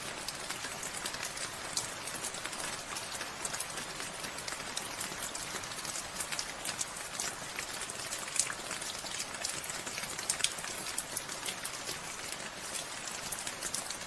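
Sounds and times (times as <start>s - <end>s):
raindrops pattering on surfaces: 0.0s - 14.0s.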